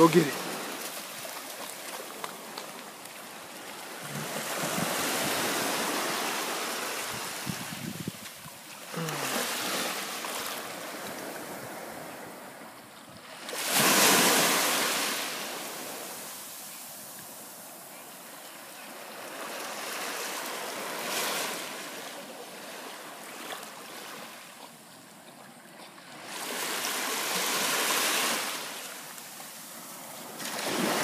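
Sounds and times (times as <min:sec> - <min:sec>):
small waves breaking on a beach: 0:00.0 - 0:31.0.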